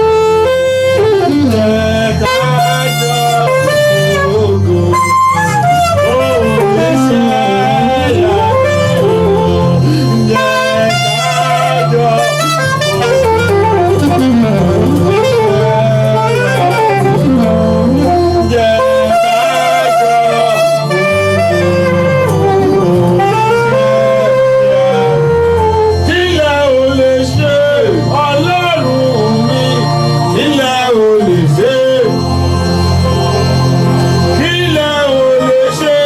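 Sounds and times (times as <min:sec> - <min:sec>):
saxophone-like lead melody: 0:00.0 - 0:36.0
steady bass line: 0:00.0 - 0:36.0.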